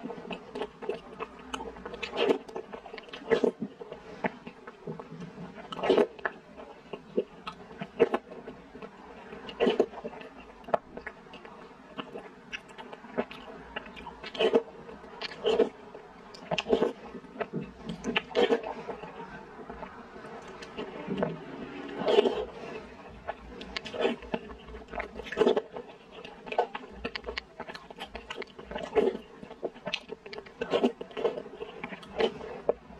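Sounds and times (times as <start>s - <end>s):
wet chewing and sucking: 0.0s - 32.9s.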